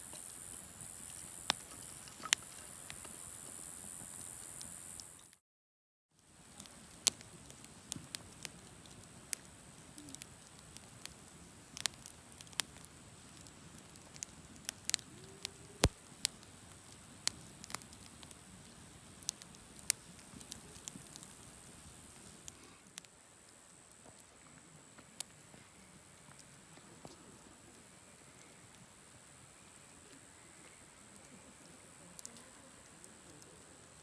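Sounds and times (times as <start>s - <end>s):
campfire crackling: 0.0s - 5.4s, 6.2s - 34.0s
soft low hiss: 0.0s - 5.4s, 6.2s - 34.0s.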